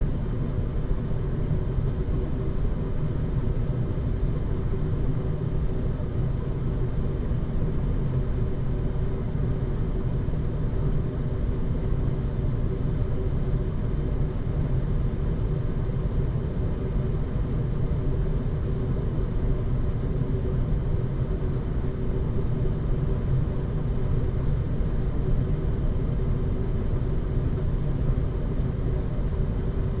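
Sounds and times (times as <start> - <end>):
faint constant hum: 0.0 - 30.0.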